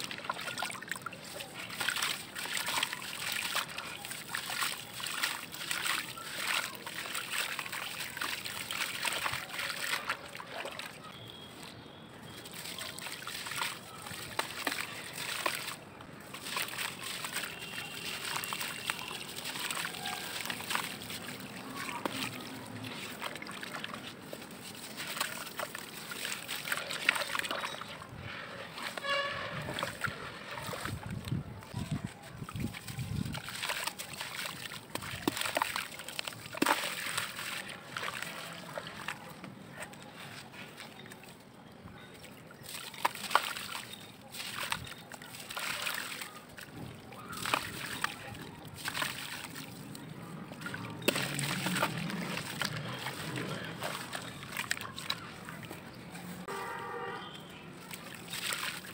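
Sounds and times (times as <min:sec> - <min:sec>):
grains splashing into water: 0:00.0 - 0:39.3, 0:42.3 - 0:56.6, 0:57.2 - 0:58.9
hands squishing wet sludge: 0:00.0 - 0:58.9.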